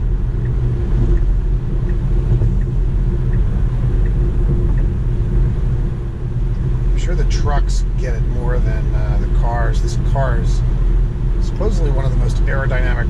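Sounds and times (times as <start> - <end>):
road and wind rumble in car: 0.0 - 13.0.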